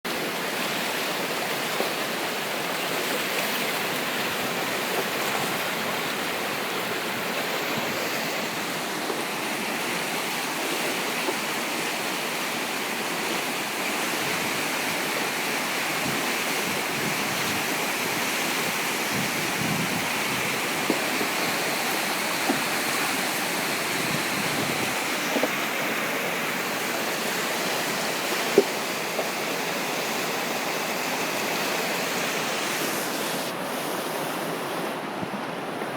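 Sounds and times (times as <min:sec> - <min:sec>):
floodwater rushing: 0:00.1 - 0:35.9.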